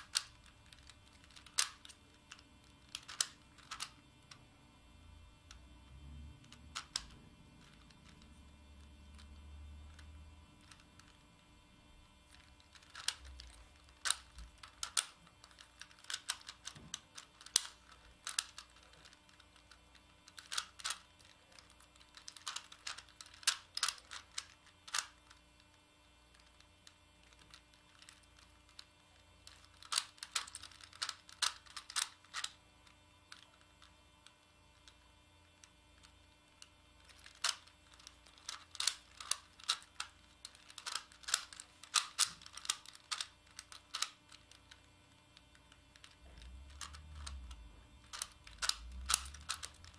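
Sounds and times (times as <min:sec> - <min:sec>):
plastic puzzle clicking: 0:00.0 - 0:04.4, 0:06.4 - 0:08.2, 0:10.6 - 0:11.2, 0:12.3 - 0:25.7, 0:26.3 - 0:32.6, 0:33.3 - 0:33.9, 0:37.0 - 0:49.9.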